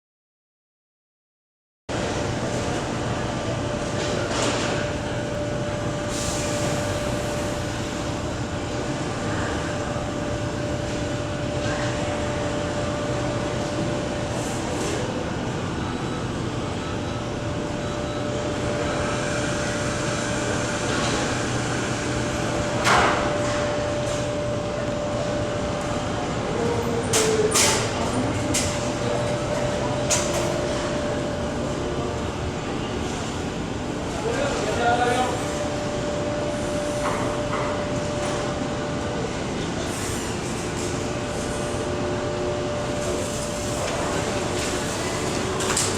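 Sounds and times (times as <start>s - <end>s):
airliner cabin hum with whine: 2.0s - 45.9s.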